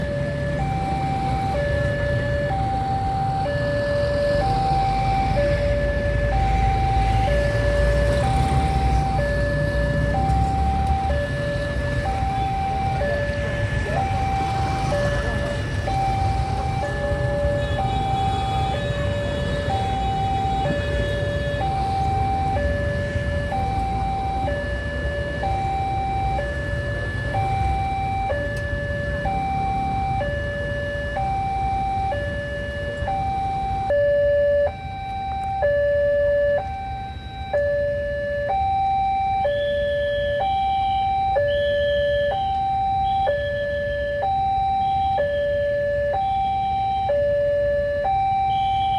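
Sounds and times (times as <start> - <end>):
electronic two-tone alarm: 0.0 - 48.9.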